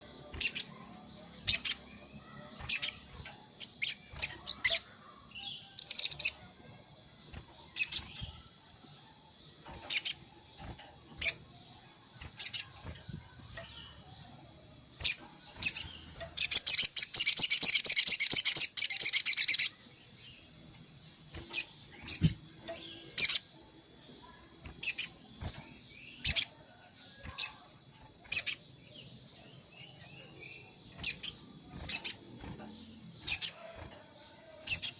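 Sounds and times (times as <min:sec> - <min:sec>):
bird chirps: 0:00.0 - 0:34.9
fast rattling bird trill: 0:00.0 - 0:34.9.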